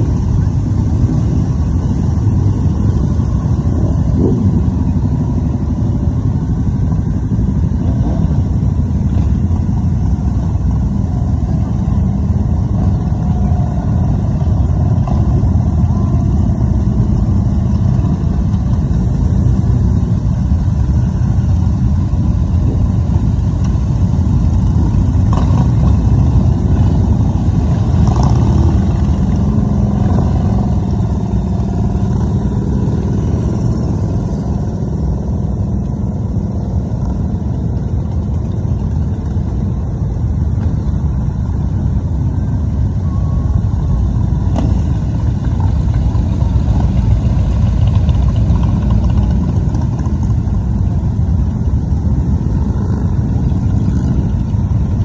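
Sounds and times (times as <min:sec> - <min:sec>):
motorcycles riding past: 0:00.0 - 0:40.0, 0:43.4 - 0:55.0.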